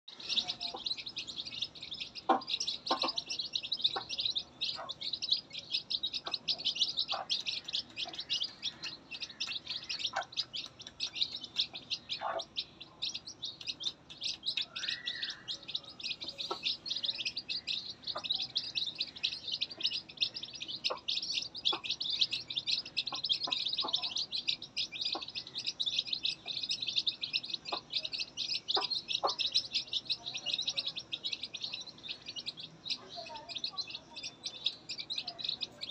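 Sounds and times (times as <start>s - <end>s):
chicks peeping: 0.1s - 35.9s.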